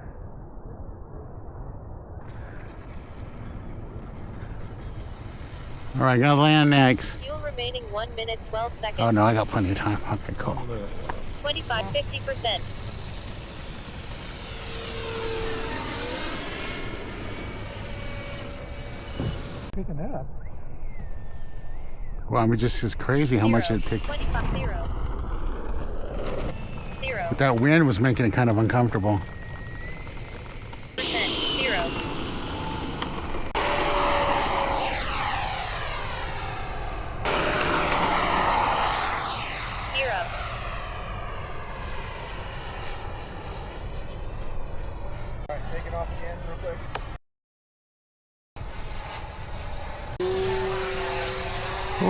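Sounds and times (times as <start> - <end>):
rc jet fan whine: 2.4 - 47.2, 48.6 - 52.0.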